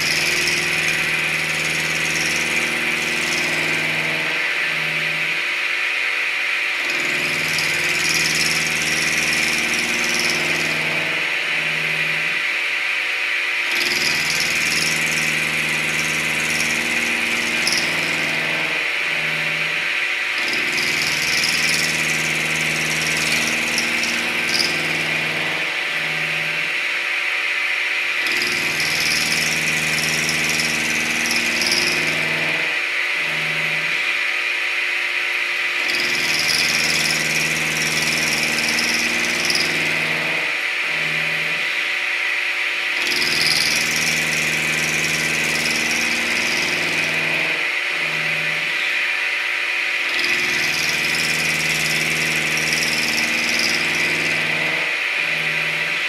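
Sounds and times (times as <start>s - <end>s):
milling machine cutting metal: 0.0s - 56.0s.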